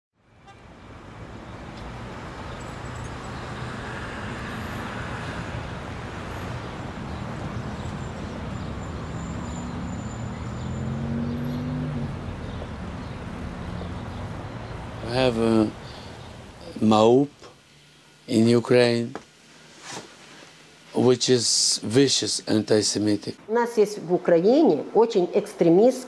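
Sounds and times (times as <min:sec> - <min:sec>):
road traffic rumble: 0:00.2 - 0:21.0.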